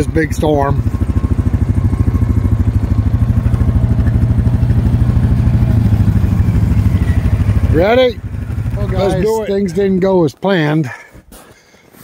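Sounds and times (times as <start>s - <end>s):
vehicle engine pulsing: 0.0s - 10.2s.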